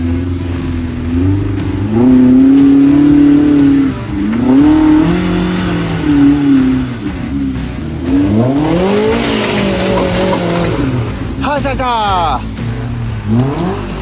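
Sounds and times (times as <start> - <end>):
utility vehicle engine revving: 0.0 - 14.0.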